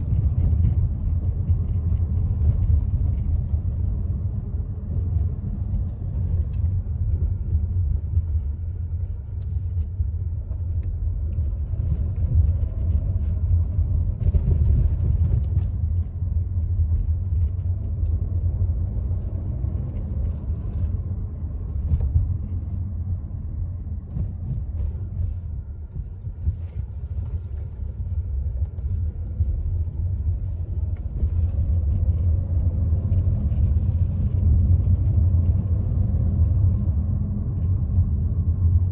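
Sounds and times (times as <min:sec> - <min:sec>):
road rumble inside car: 0:00.0 - 0:38.9.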